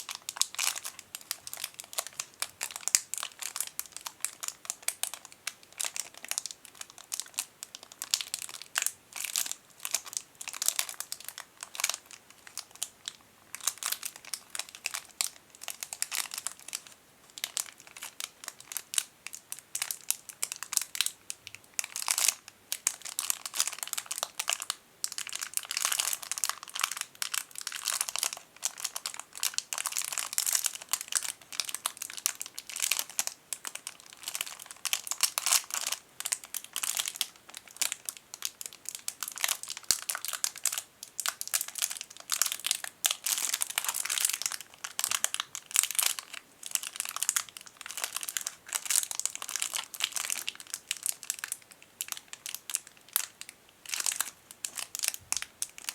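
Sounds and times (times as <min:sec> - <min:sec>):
plastic bag crinkling: 0:00.0 - 0:55.9.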